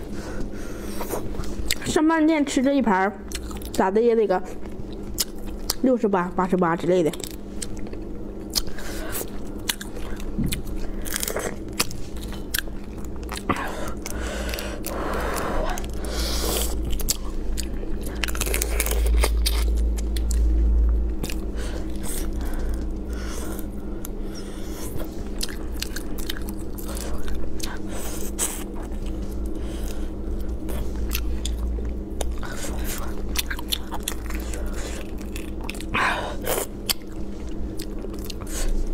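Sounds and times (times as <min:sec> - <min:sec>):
sucking and chewing: 0:03.3 - 0:03.9, 0:04.6 - 0:05.8, 0:07.1 - 0:38.9.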